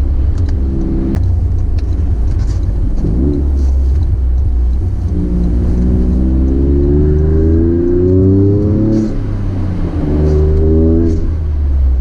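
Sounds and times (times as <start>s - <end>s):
engine revving: 0.0s - 11.8s
car engine rumble: 0.0s - 12.0s.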